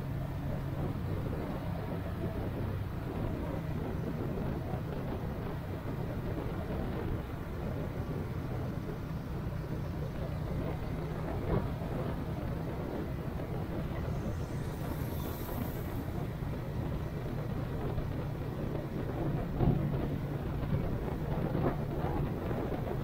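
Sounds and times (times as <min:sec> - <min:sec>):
road and wind rumble: 0:00.0 - 0:23.0
vehicle engine hum: 0:00.0 - 0:23.0.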